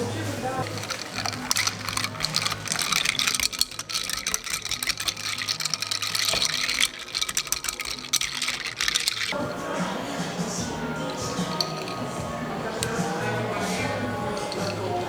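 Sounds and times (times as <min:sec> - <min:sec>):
quiet background music: 0:00.0 - 0:15.0
small hard objects rattling: 0:00.4 - 0:09.4, 0:11.0 - 0:13.0, 0:13.6 - 0:15.0.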